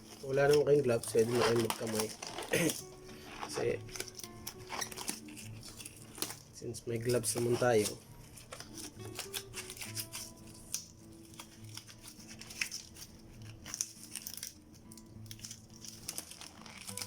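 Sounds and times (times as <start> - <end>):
disposable gloves crinkling: 0.0 - 17.0
soft background music: 0.0 - 17.0.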